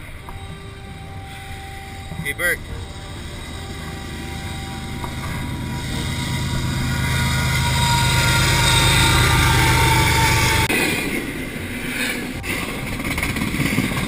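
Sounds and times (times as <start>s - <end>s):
locomotive engine hum: 0.0s - 14.0s
rail noise: 0.0s - 14.0s.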